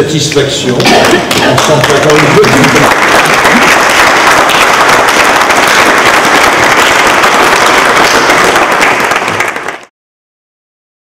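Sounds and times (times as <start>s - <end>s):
people applauding: 0.8s - 9.9s.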